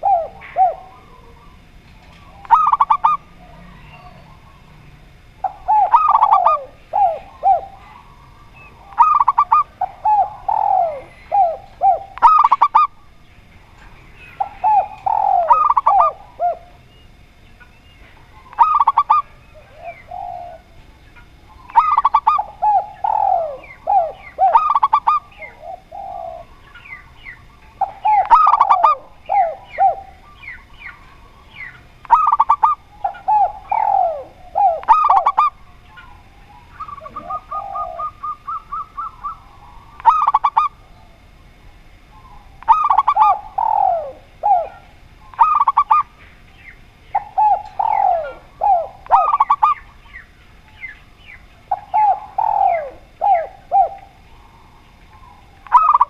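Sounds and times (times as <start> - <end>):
doves cooing: 0.0 - 56.0
rapid run of short bird notes: 0.0 - 56.0.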